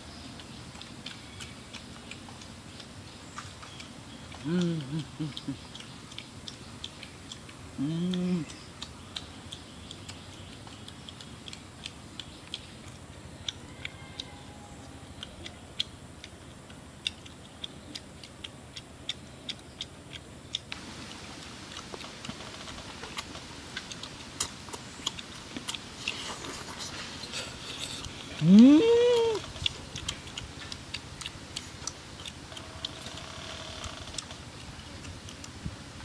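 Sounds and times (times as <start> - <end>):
people chewing and lip smacking: 0.0 - 36.0
steady low hiss: 0.0 - 36.0.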